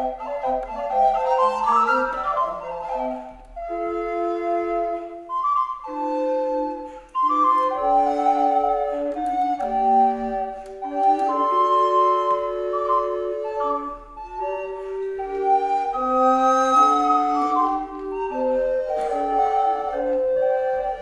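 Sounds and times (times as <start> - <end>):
recorders playing baroque music: 0.0 - 21.0.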